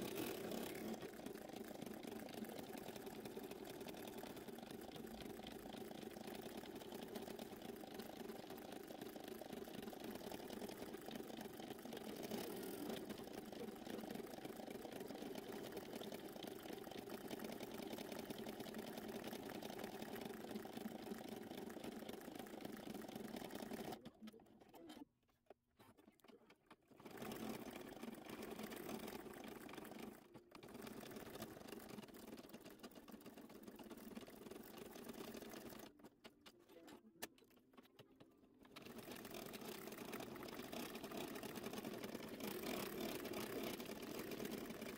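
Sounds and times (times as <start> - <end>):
embroidery machine stitching: 0.0 - 25.0, 25.9 - 44.9.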